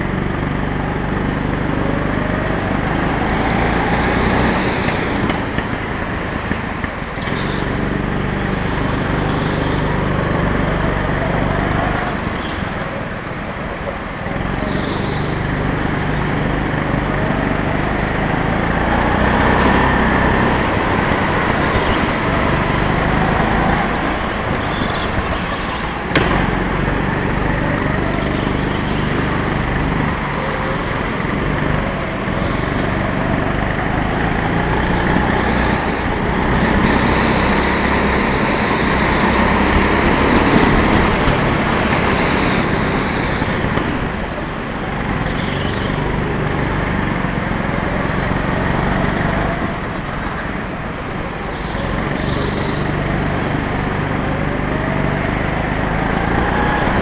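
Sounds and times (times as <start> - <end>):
go-kart engine revving: 0.0 - 57.0.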